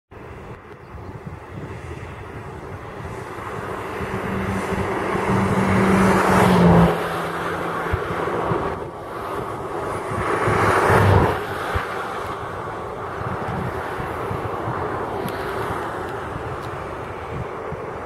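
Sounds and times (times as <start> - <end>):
vehicle passing on highway: 0.1 - 18.0.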